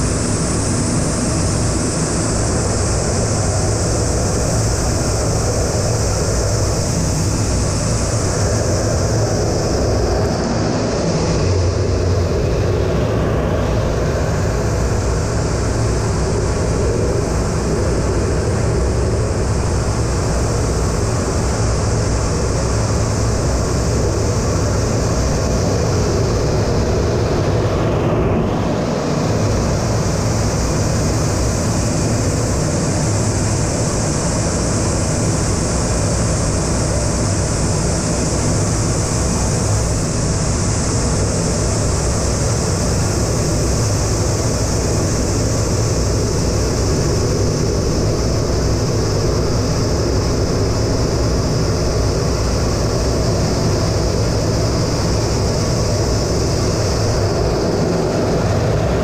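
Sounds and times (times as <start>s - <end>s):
airflow hiss: 0.0s - 59.0s
jet engine rumble: 0.0s - 59.0s.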